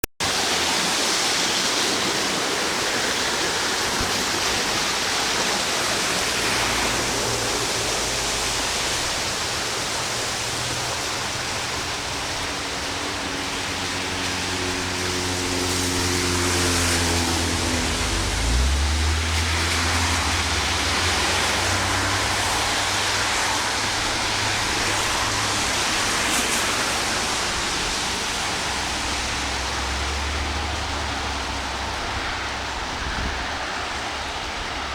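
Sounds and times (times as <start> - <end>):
floodwater flowing: 0.2 - 34.9
heavy rain: 0.2 - 34.9
low engine hum: 4.8 - 34.9.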